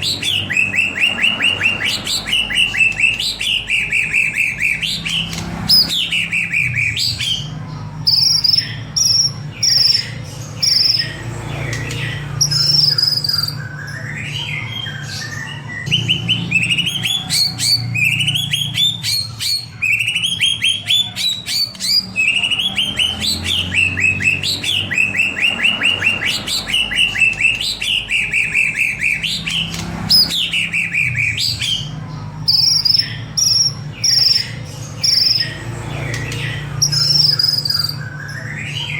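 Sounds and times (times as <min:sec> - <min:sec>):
bird singing whistles: 0:00.0 - 0:38.9.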